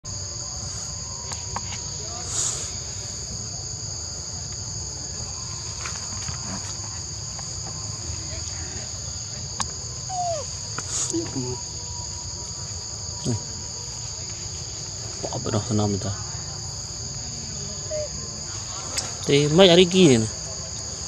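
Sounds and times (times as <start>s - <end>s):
insect chorus high drone: 0.0s - 21.0s.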